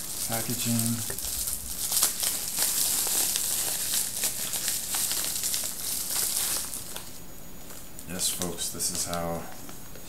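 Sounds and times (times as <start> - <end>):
bubble wrap crackling: 0.0 - 10.0.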